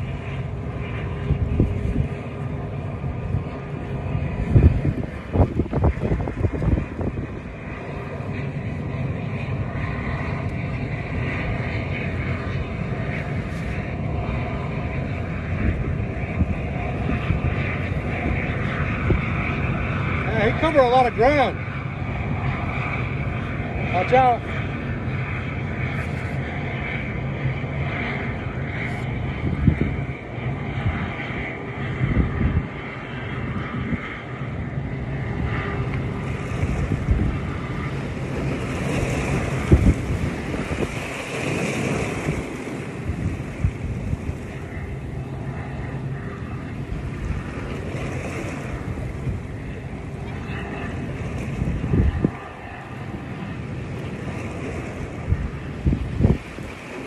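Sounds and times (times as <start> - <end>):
choppy water: 0.0 - 57.0
wind buffeting microphone: 0.0 - 57.0.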